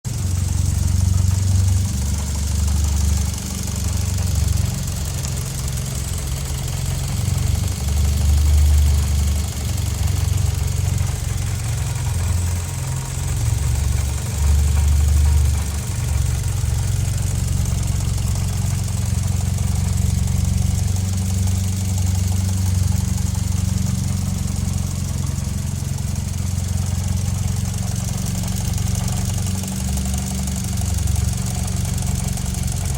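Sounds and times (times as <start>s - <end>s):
car engine idling with rattle: 0.0s - 32.9s.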